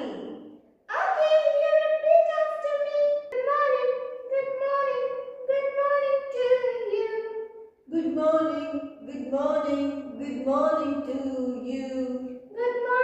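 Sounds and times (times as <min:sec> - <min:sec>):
high-pitched voice singing: 0:00.9 - 0:13.0.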